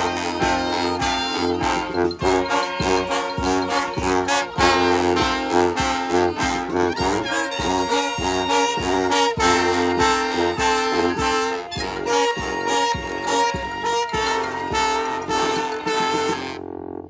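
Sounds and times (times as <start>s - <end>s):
brass band playing: 0.0s - 16.6s
pulsing bass line: 0.0s - 17.0s.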